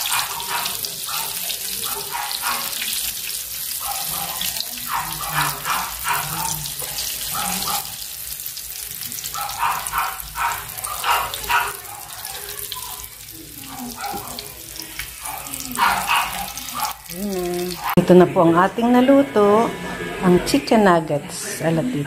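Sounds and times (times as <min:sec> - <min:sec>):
oil sizzling in frying pan: 0:00.0 - 0:18.0.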